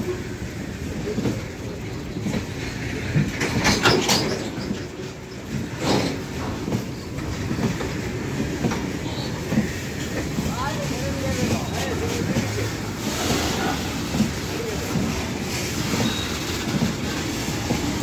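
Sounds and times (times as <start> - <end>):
train wheels clattering over rail joints: 0.0 - 18.0.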